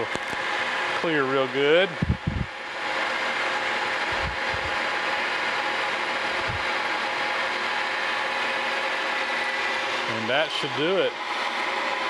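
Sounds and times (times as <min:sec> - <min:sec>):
milling machine cutting metal: 0:00.0 - 0:12.0.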